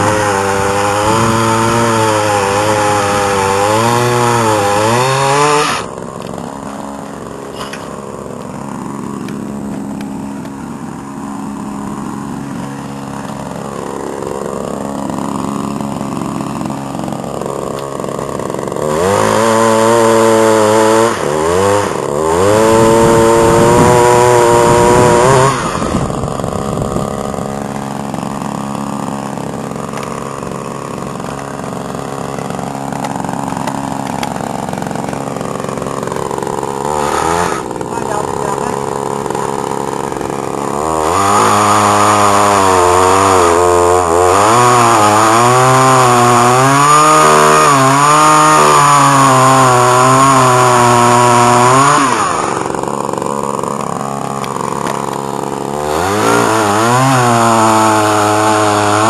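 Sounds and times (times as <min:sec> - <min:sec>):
two-stroke engine revving and idling: 0:00.0 - 0:59.0.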